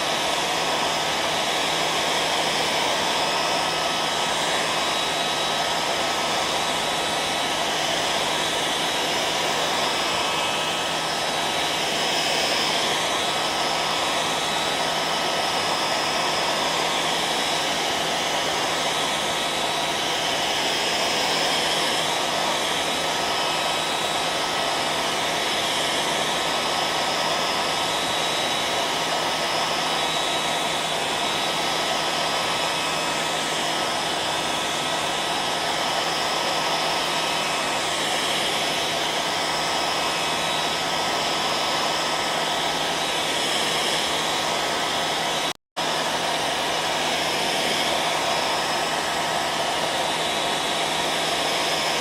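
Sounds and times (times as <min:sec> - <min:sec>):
hair dryer running: 0:00.0 - 0:52.0.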